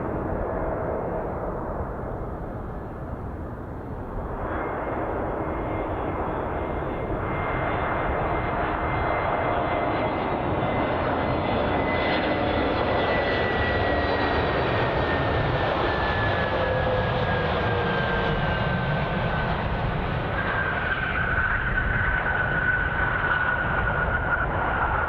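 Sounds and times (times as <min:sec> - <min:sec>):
jet engines whine and rumble: 0:00.0 - 0:25.0.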